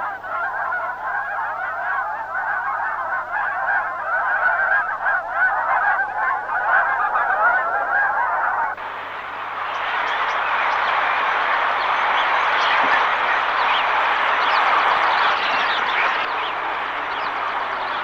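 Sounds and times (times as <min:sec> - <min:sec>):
geese honking in flight: 0:00.0 - 0:18.0.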